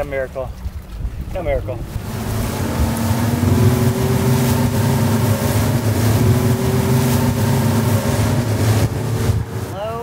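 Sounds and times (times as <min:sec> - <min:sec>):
boat engine running: 0:00.0 - 0:10.0
wind and water hiss: 0:00.0 - 0:10.0.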